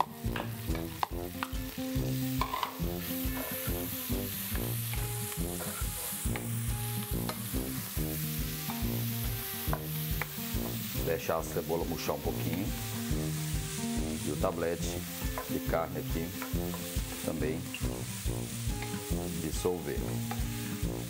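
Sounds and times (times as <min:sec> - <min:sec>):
background music with beat: 0:00.0 - 0:21.0
onion and meat sizzling in pot: 0:00.0 - 0:21.0.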